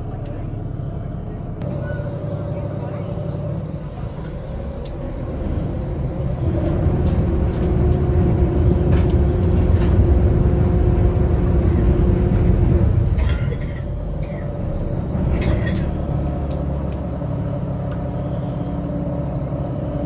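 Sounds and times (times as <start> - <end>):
ferry engine low rumble: 0.0 - 20.0.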